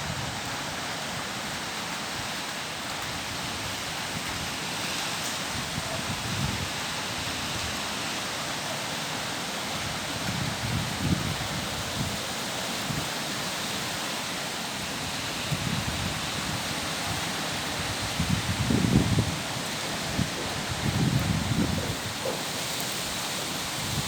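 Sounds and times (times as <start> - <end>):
high wind rushing hiss: 0.0 - 24.0
wind gusts buffeting microphone: 3.0 - 24.0.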